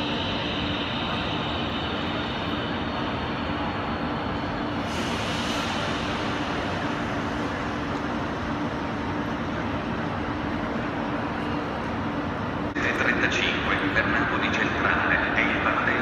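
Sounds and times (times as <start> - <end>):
station hall crowd din: 0.0 - 16.0.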